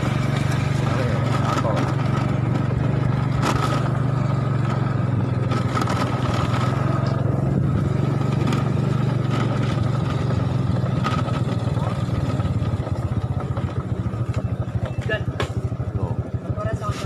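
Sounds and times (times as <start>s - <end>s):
small motorcycle engine droning: 0.0s - 17.0s.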